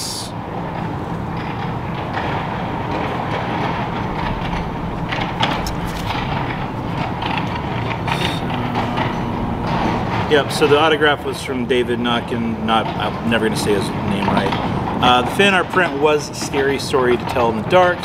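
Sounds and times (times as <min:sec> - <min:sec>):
mechanical rumble and hum: 0:00.0 - 0:18.0.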